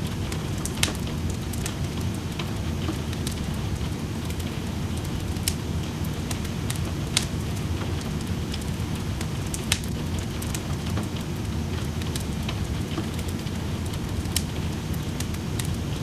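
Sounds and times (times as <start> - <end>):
rain rushing: 0.0 - 16.0
sharp pops from fire: 0.0 - 16.0
wood fire crackling: 0.0 - 16.0.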